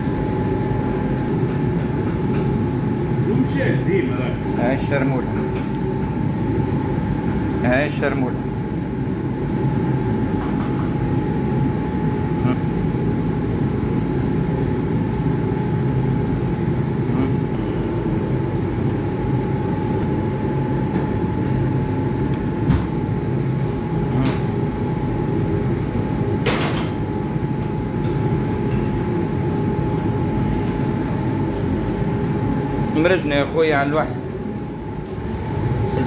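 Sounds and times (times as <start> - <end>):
kitchen ventilation drone: 0.0 - 36.0.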